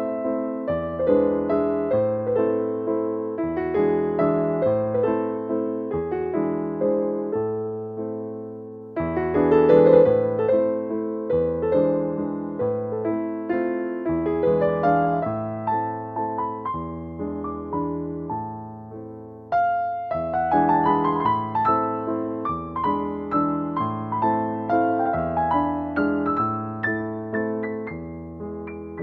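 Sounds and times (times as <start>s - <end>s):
slow gentle piano music: 0.0s - 29.0s.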